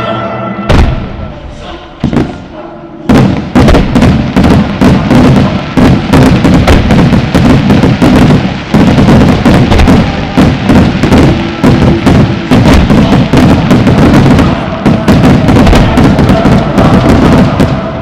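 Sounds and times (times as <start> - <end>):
music: 0.0 - 6.1, 9.6 - 18.0
fireworks bursting: 0.7 - 18.0.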